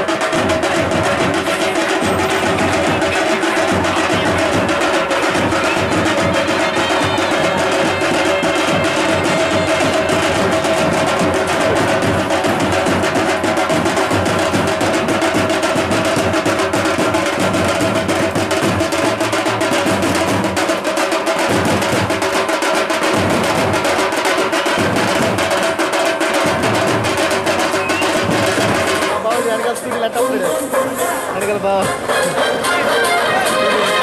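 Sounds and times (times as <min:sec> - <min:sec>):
fast loud drumming: 0:00.0 - 0:34.0.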